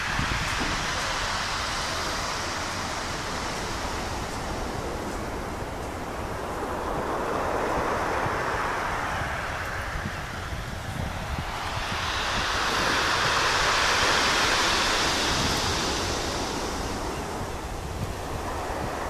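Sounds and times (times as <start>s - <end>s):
small waves washing on shore: 0.0s - 19.0s
wind rumbling on microphone: 0.0s - 19.0s.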